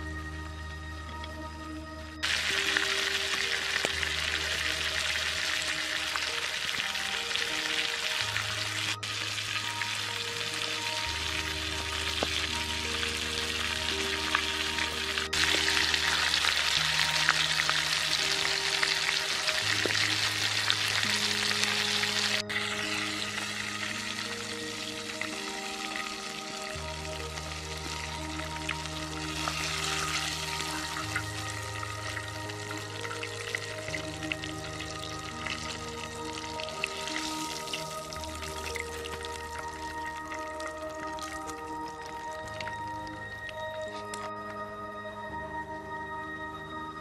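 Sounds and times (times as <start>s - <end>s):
soft background music: 0.0s - 47.0s
chicken deep-frying in oil: 2.2s - 44.6s.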